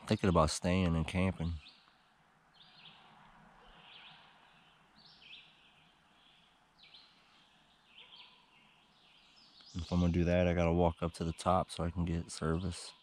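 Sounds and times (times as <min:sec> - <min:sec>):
forest hush: 0:00.0 - 0:12.8
bird singing faintly: 0:00.0 - 0:13.0.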